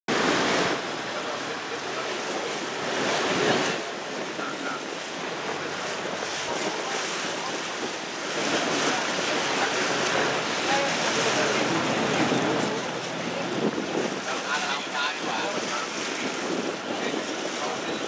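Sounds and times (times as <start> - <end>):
water rushing along boat hull: 0.1 - 18.0
wind buffeting microphone: 0.1 - 18.0.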